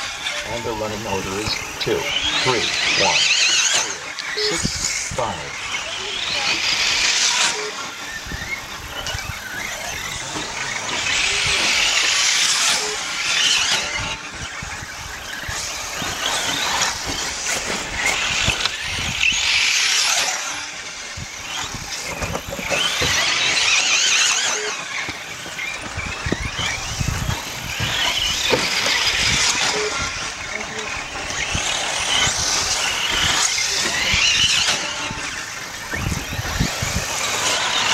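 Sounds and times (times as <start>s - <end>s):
rc car motor whine: 0.0s - 37.9s.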